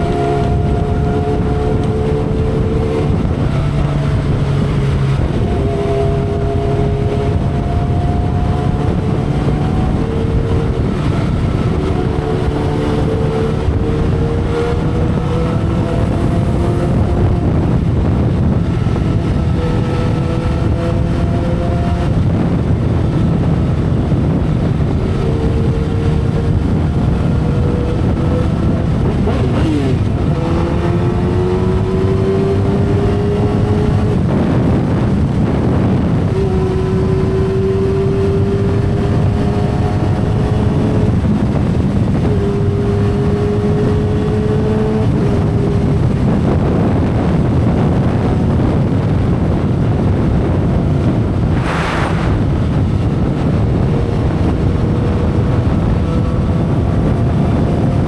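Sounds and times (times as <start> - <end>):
motorcycle engine running: 0.0 - 58.0
wind rush: 0.0 - 58.0.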